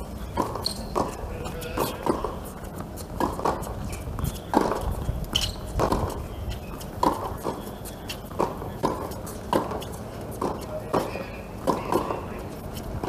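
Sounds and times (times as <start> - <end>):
racket striking tennis ball: 0.0 - 12.7
tennis ball bouncing on hard court: 0.0 - 12.9
low outdoor rumble: 0.0 - 13.0.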